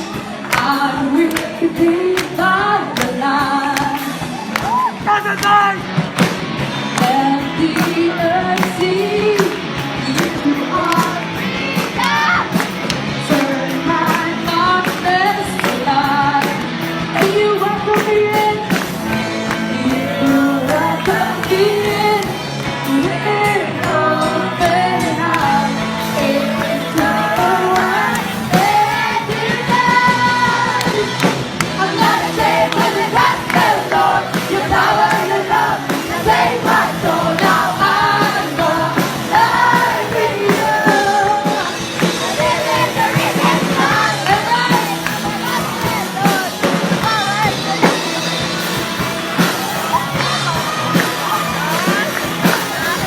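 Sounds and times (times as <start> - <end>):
vocalists singing: 0.0 - 6.0, 6.7 - 53.0
bass: 0.0 - 53.0
drums: 0.0 - 53.0.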